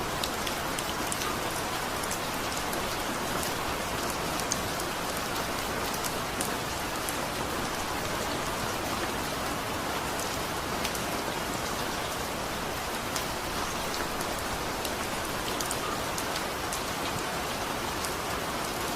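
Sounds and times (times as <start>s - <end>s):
steady rain hissing: 0.0s - 18.9s.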